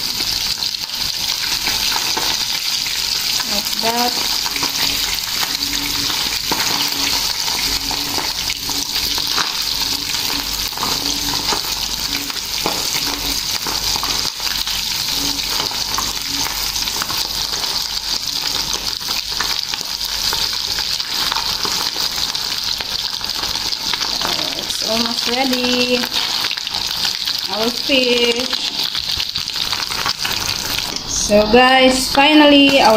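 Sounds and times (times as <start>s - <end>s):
fish sizzling in hot oil: 0.0s - 32.9s.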